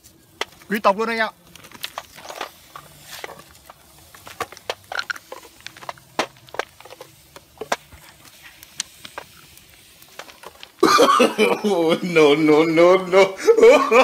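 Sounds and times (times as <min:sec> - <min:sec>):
small fire crackling and popping: 0:00.0 - 0:14.0.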